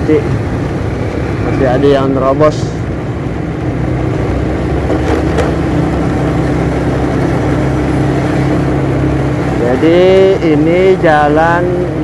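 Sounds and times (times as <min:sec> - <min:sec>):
motorcycle engine cruising: 0:00.0 - 0:12.0
road and wind noise: 0:00.0 - 0:12.0.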